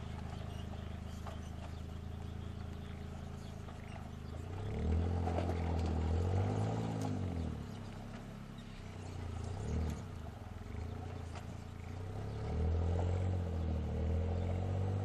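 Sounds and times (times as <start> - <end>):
small car engine revving: 0.0 - 15.0.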